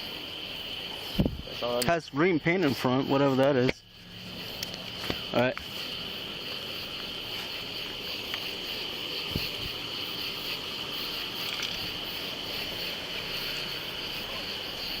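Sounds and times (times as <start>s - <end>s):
high-pitched insect chorus: 0.0s - 15.0s
low hiss: 0.0s - 15.0s.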